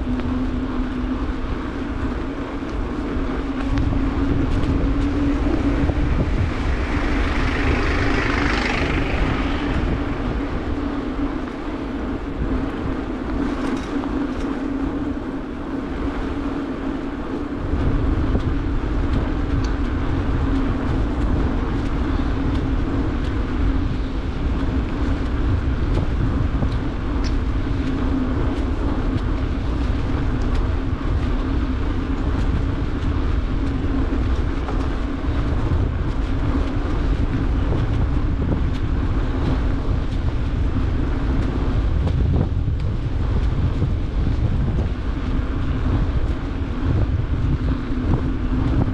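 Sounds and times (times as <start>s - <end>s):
bicycle tyres rolling on asphalt: 0.0s - 48.9s
steady low hum: 0.0s - 48.9s
wind rumbling on microphone: 0.0s - 48.9s.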